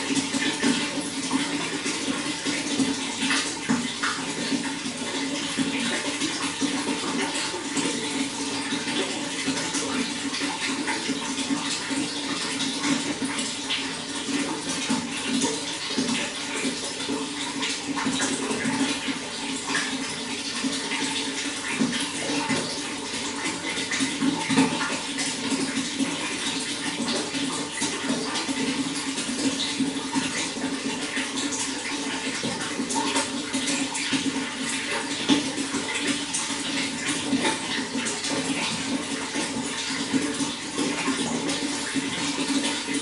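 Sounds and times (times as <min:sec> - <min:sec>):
running water splashing: 0:00.0 - 0:43.0.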